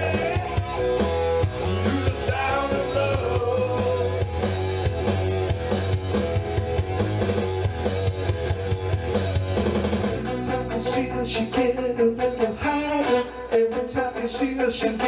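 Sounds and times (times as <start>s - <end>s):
drum kit beat: 0.0s - 13.2s
guitar: 0.0s - 15.0s
sustained bass line: 0.0s - 15.0s.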